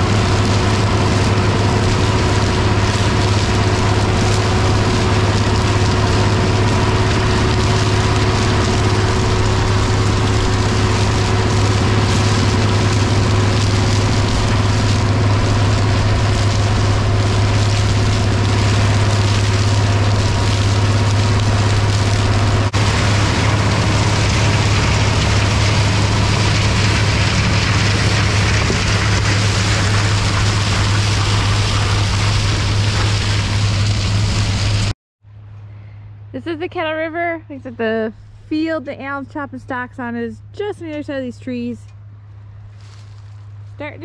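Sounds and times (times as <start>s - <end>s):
chopper shredding stalks: 0.0s - 44.0s
high whine: 0.0s - 44.0s
tractor diesel engine drone: 0.0s - 44.0s.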